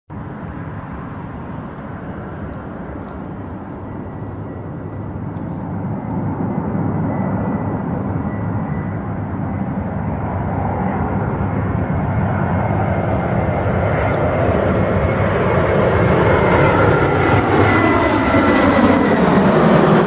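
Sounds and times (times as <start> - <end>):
jet airliner engine rumble: 0.1 - 20.0.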